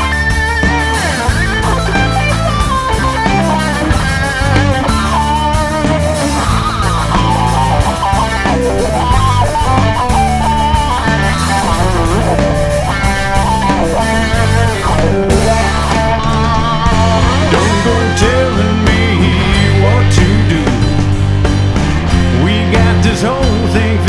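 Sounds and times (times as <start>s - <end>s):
country rock song: 0.0s - 24.0s
electric guitar lead: 0.0s - 24.0s.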